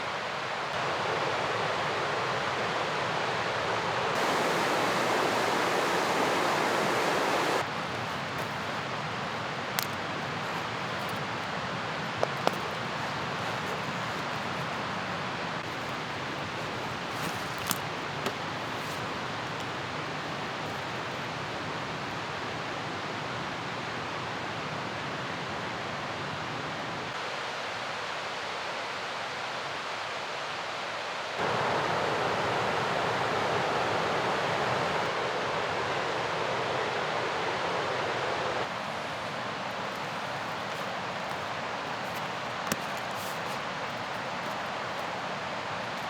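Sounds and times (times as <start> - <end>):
river rushing: 0.0 - 24.3, 27.2 - 46.0.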